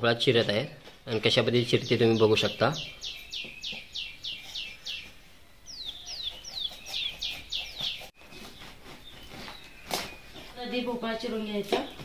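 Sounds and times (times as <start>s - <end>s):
small bird chirping: 1.1s - 12.0s.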